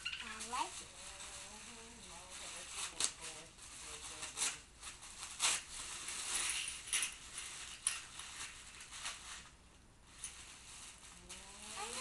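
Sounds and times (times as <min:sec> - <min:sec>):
paper rustling: 0:00.3 - 0:09.6, 0:10.2 - 0:12.0.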